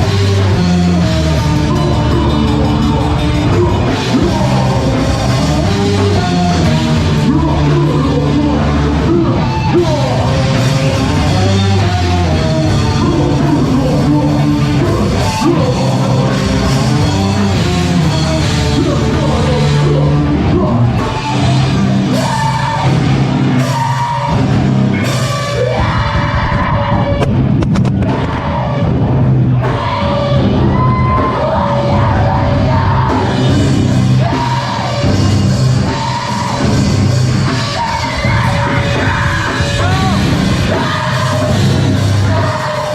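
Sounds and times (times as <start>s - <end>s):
live heavy rock band: 0.0s - 42.9s
rock vocals: 0.0s - 42.9s.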